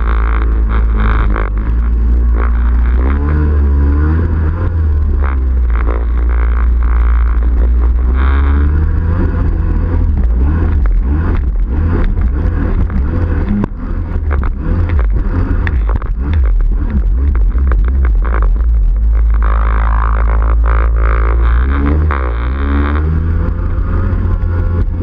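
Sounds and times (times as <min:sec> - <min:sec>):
watercraft engine revving: 0:00.0 - 0:25.0.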